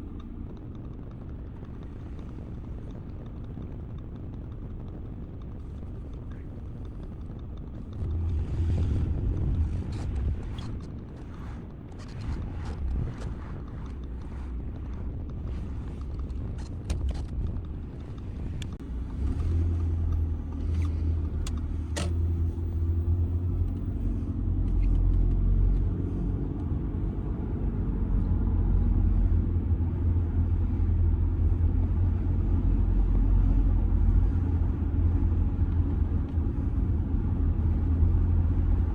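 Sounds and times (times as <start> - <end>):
diesel car engine running: 0.0 - 38.9
road noise: 0.0 - 38.9.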